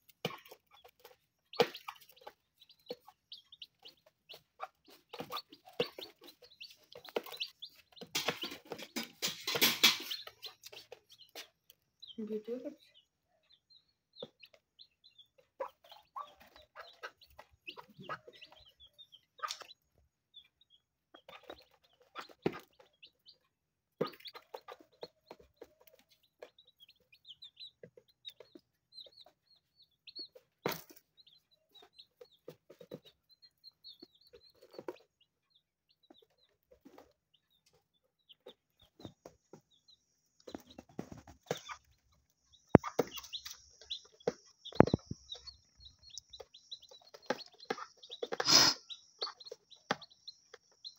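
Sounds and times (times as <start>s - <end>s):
hen clucking: 0.0s - 12.8s, 14.2s - 39.2s, 39.8s - 50.9s
chicks peeping: 0.0s - 50.9s.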